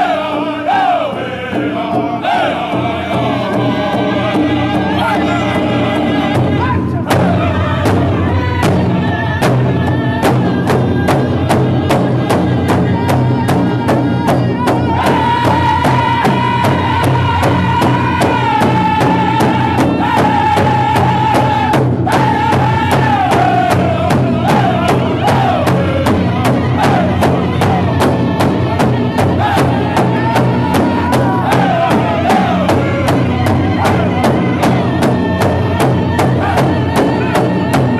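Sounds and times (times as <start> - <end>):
large drum steady beat: 0.0 - 37.9
men singing high: 0.0 - 37.9.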